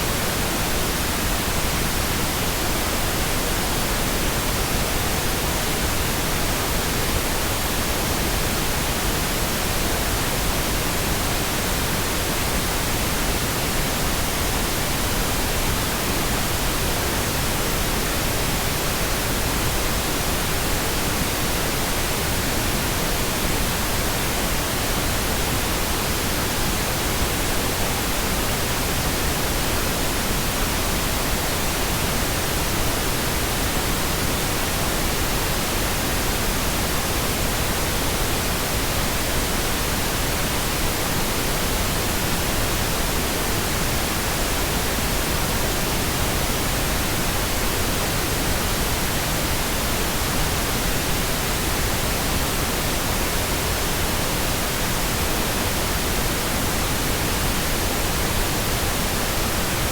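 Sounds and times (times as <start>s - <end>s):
steady pink noise hiss: 0.0s - 59.9s.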